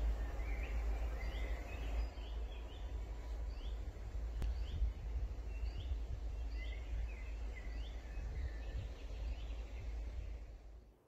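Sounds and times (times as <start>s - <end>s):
small birds chirping: 0.0s - 10.8s
low rumbling background noise: 0.0s - 11.0s.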